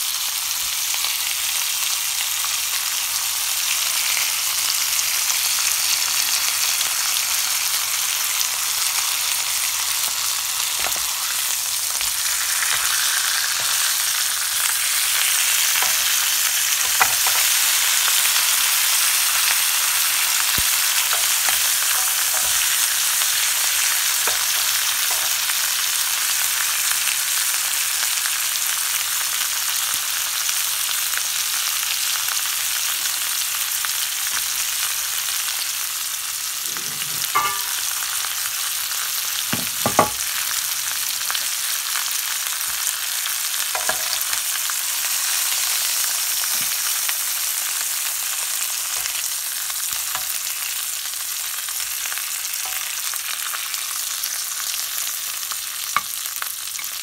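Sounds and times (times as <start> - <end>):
pork chops sizzling in a pan: 0.0 - 57.0.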